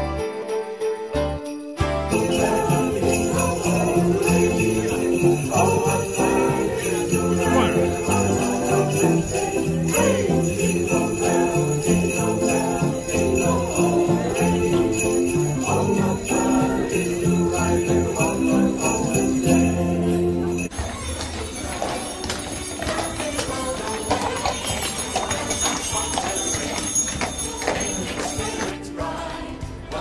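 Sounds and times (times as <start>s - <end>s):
sleigh bells jingling: 0.0s - 29.2s
choir singing christmas song: 0.0s - 30.0s.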